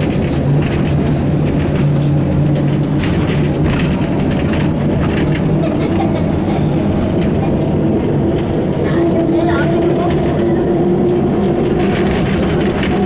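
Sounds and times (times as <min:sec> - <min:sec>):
bus diesel engine humming: 0:00.0 - 0:13.0.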